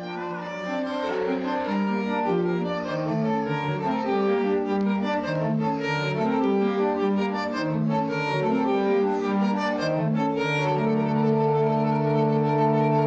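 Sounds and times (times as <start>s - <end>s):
slow violin and cello music: 0.0s - 13.0s.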